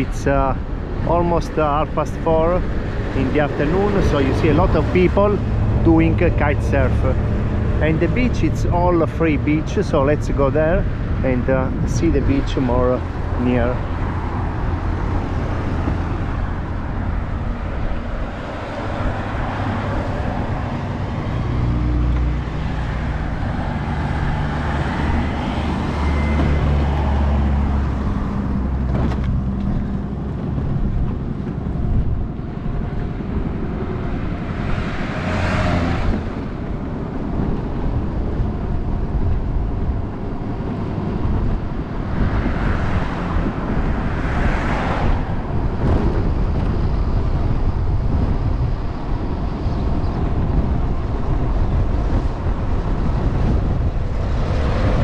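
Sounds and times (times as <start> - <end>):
cars passing: 0.0 - 55.0
wind on microphone: 0.0 - 55.0.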